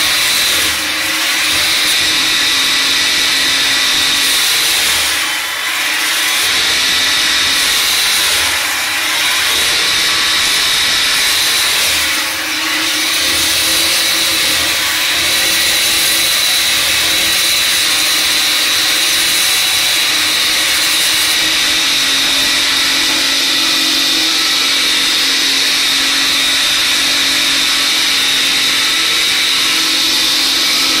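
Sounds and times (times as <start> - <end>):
peeling machine whirring and whining: 0.0 - 31.0.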